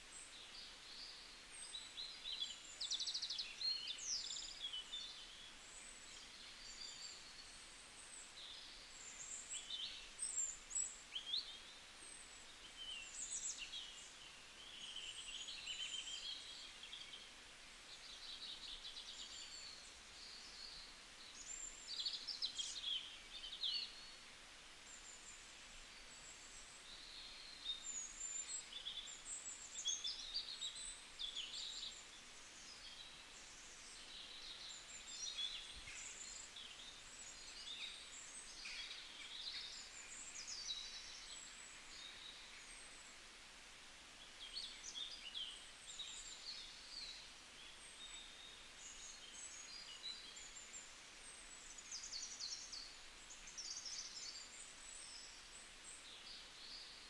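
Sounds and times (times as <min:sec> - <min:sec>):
small birds chirping: 0:00.0 - 0:57.0
steady low hiss: 0:00.0 - 0:57.0.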